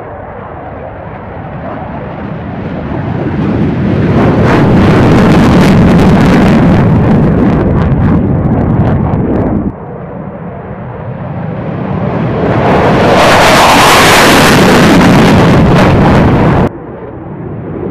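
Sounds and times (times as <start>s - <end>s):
jet noise crackling: 0.0s - 10.0s, 10.9s - 17.9s
jet engines at full power: 0.0s - 17.9s.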